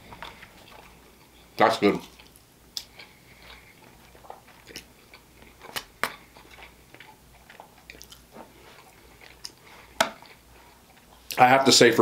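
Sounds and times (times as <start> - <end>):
person chewing food: 0.0 - 11.4.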